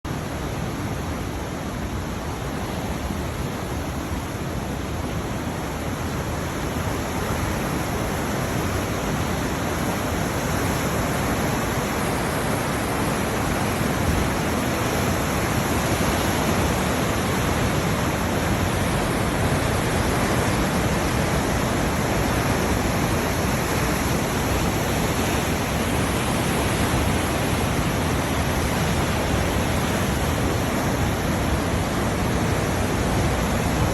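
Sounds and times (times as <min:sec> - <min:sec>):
sea surf waves breaking: 0:00.1 - 0:33.9.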